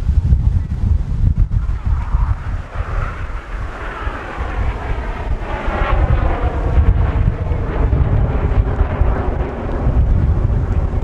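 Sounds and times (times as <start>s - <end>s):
wind buffeting microphone: 0.0s - 11.0s
aircraft flying past: 1.1s - 11.0s.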